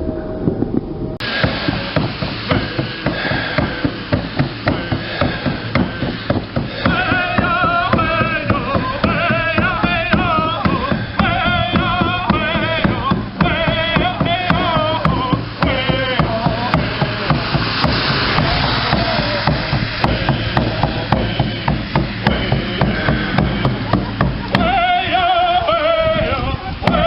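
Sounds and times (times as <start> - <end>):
drum beating steadily: 1.2 - 27.0
voices singing: 1.2 - 27.0.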